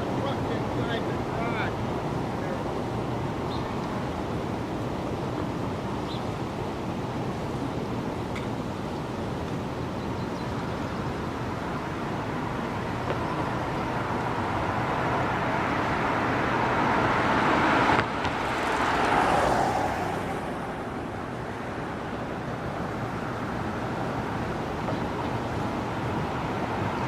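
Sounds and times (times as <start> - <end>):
steady outdoor noise: 0.0 - 27.0
tyre and road noise: 0.0 - 27.0.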